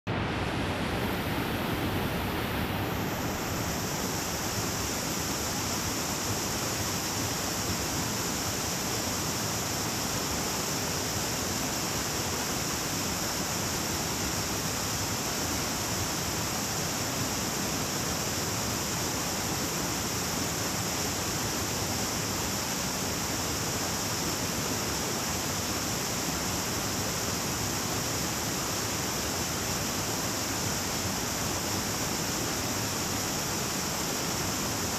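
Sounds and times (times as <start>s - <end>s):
river running over rocks: 0.1s - 34.9s
steady high hiss: 0.7s - 34.9s.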